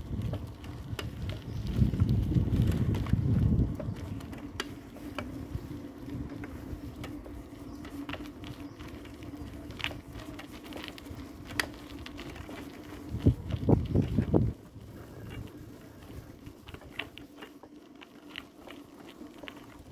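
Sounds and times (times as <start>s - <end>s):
vehicle low hum: 0.0s - 19.9s.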